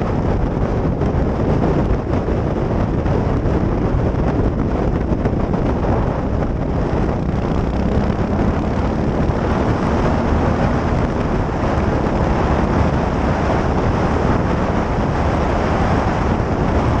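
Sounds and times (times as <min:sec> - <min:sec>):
motorcycle engine running: 0:00.0 - 0:17.0
wind buffeting on helmet camera: 0:00.0 - 0:17.0.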